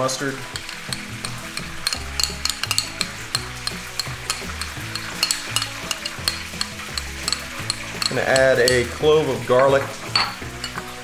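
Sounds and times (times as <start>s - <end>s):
frying in hot oil: 0.0s - 11.0s.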